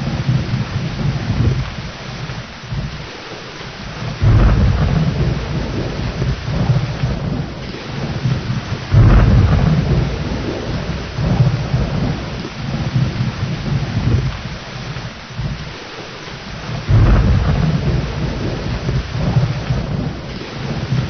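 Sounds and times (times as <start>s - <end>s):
rolling thunder: 0.0s - 21.0s
steady rain: 0.0s - 21.0s.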